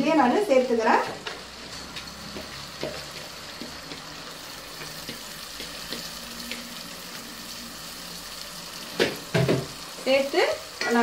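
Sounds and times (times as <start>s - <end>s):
rice sizzling in hot oil: 0.0s - 11.0s.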